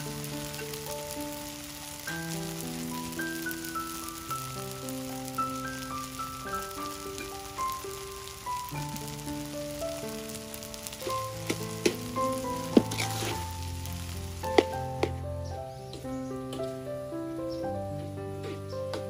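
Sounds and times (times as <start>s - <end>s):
rice sizzling in a wok: 0.0s - 17.6s
light melodic background music: 0.0s - 19.0s.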